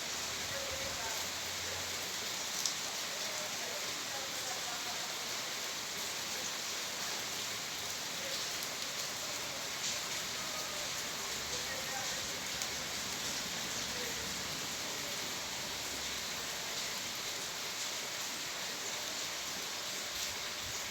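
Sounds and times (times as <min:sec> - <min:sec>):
steady rain: 0:00.0 - 0:20.9.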